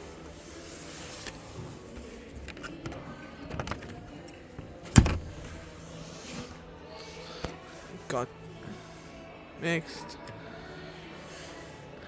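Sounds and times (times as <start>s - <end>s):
background hubbub: 0.0s - 12.0s.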